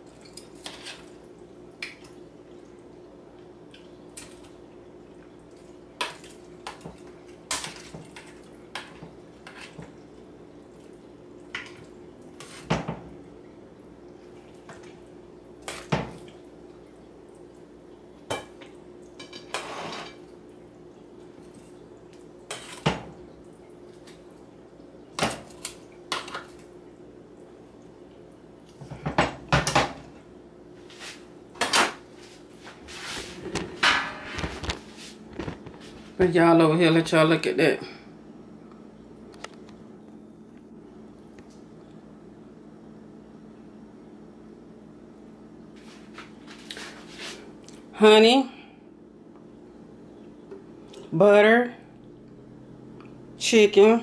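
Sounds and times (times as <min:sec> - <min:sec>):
faint hum: 0:00.0 - 0:54.0.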